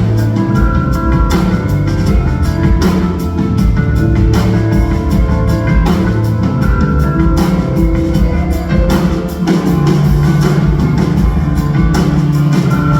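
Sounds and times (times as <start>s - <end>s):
bass: 0.0s - 12.9s
drum kit beat: 0.0s - 12.9s
held chords: 0.0s - 12.9s.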